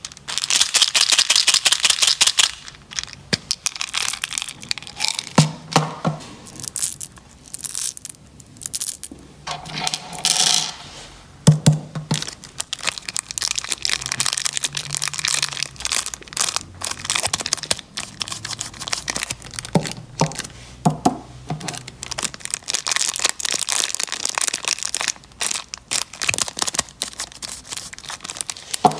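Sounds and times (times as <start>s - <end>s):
plastic wrappers crinkling: 0.0s - 5.4s, 6.4s - 10.8s, 12.1s - 20.6s, 21.6s - 28.9s.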